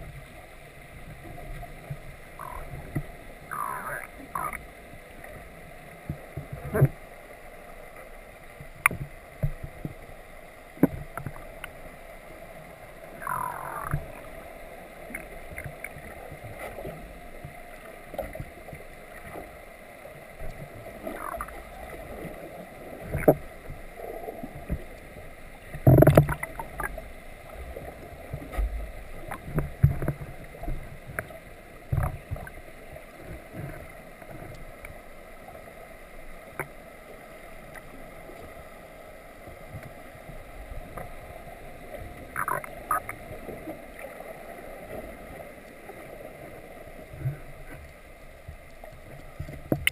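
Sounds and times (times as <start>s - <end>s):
boat background noise: 0.0s - 49.9s.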